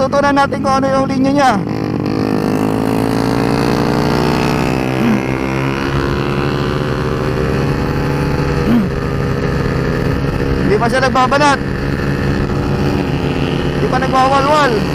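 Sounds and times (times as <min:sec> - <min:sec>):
scooter engine revving high: 0:00.0 - 0:14.9.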